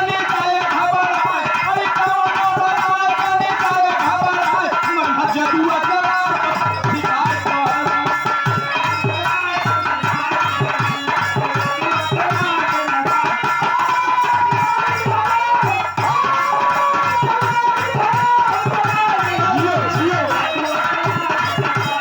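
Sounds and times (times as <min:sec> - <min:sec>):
dholak drum rhythm: 0:00.0 - 0:22.0
harmonium melody: 0:00.0 - 0:22.0.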